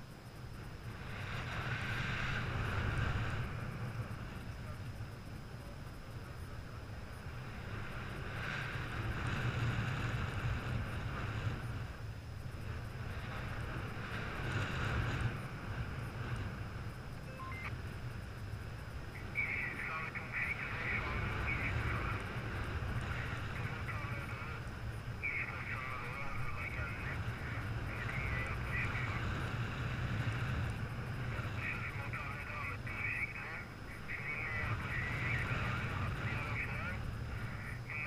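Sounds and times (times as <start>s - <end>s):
wind rumble on microphone: 0.0s - 38.0s.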